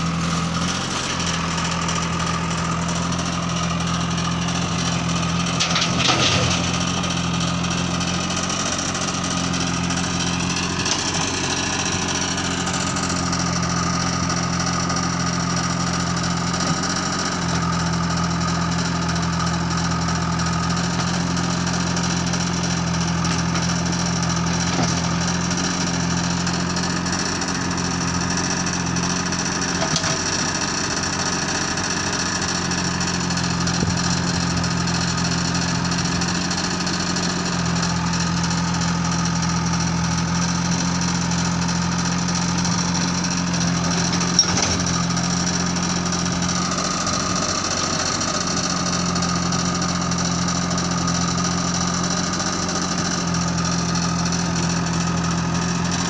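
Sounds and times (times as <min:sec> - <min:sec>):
diesel backhoe engine running: 0:00.0 - 0:56.0.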